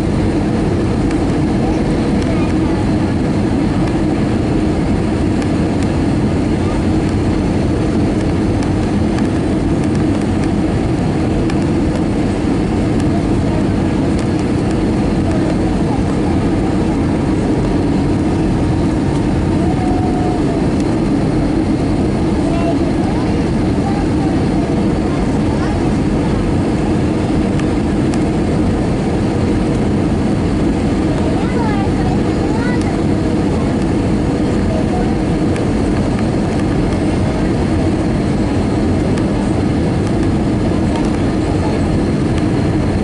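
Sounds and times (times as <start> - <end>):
airplane cabin engine rumble: 0.0 - 43.0.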